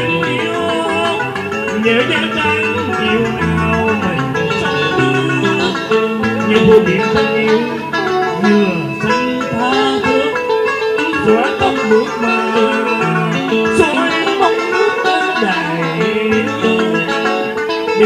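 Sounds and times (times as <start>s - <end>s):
plucked guitar music over sound system: 0.0s - 18.0s.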